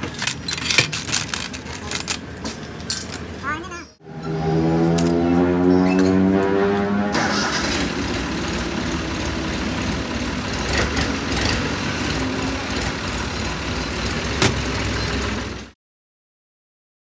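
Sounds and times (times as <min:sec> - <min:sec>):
engine running: 0:01.2 - 0:15.7.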